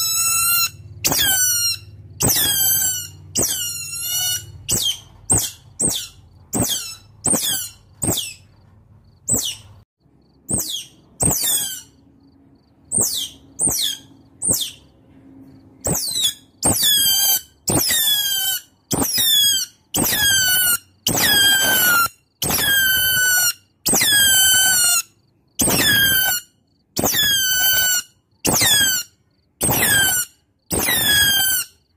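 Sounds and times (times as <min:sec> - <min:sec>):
otters chirping and squealing: 0:00.0 - 0:15.0, 0:15.8 - 0:31.9.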